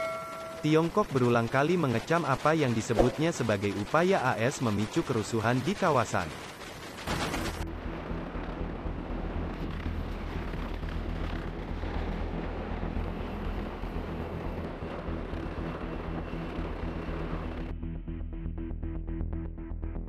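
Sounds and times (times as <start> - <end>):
helicopter rotor and engine rumble: 0.0 - 17.9.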